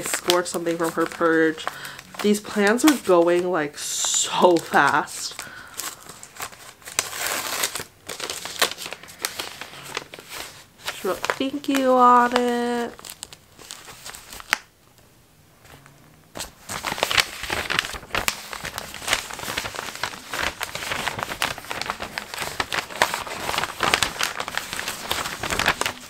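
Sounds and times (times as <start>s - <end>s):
paper wrap crinkling: 0.0s - 14.7s, 15.6s - 26.0s.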